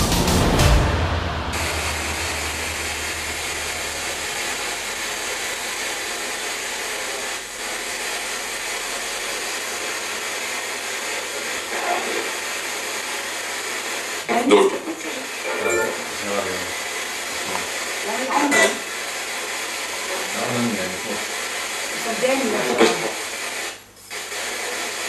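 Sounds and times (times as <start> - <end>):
radio static hiss: 1.1 - 25.0.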